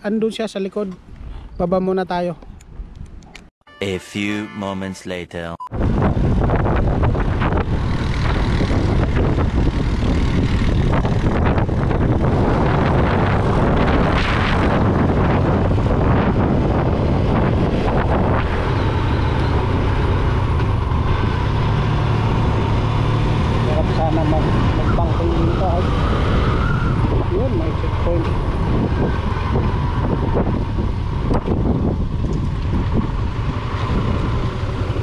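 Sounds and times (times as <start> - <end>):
wind noise on microphone: 5.7 - 35.0.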